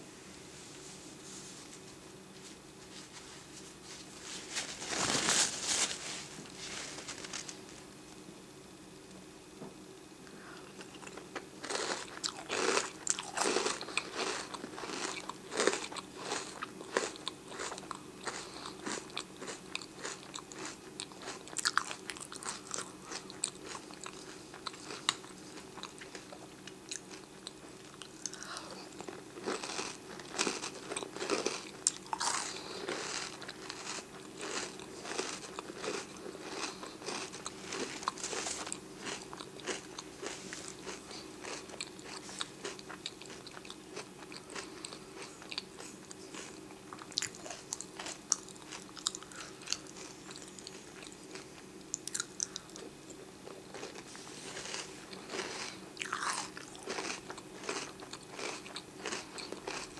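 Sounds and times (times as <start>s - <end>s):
wet crunchy chewing: 10.8s - 59.9s.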